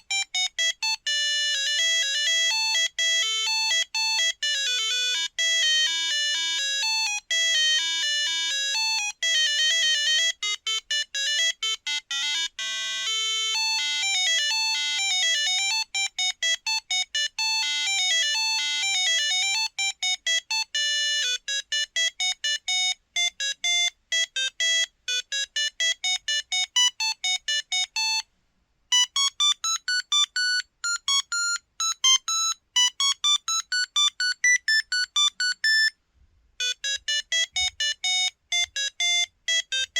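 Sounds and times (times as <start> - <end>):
monophonic phone ringtone melody: 0.0 - 28.2, 28.9 - 36.0, 36.6 - 39.9.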